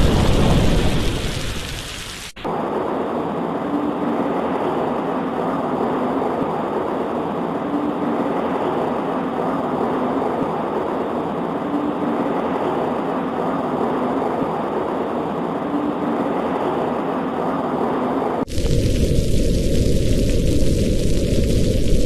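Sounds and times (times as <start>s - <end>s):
rain on a window: 0.0s - 15.0s, 18.4s - 22.0s.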